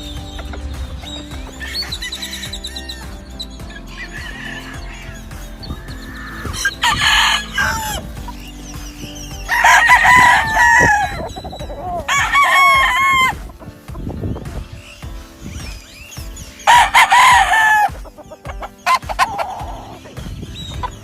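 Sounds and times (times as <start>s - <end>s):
roosters crowing: 0.0s - 13.7s, 16.4s - 21.0s.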